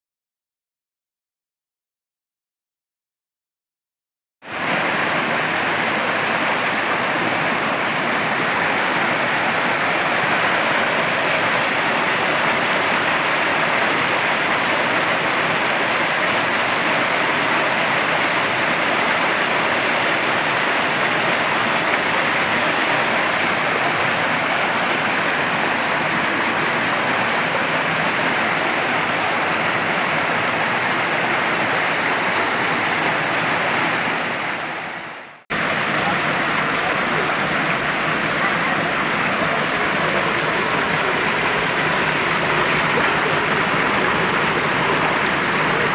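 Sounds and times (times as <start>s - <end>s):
waterfall rushing over boulders: 4.5s - 45.9s.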